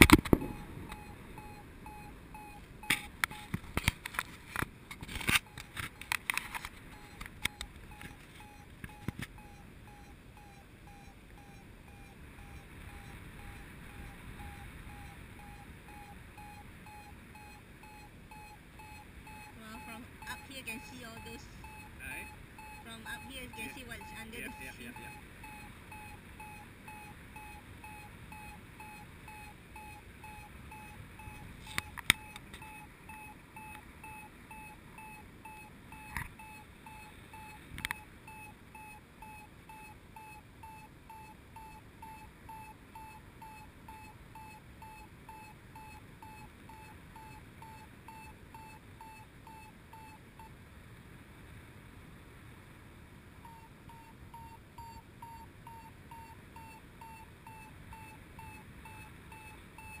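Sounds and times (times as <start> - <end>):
variometer beeping: 0.0 - 50.6, 53.4 - 60.0
faint wind noise: 0.0 - 60.0.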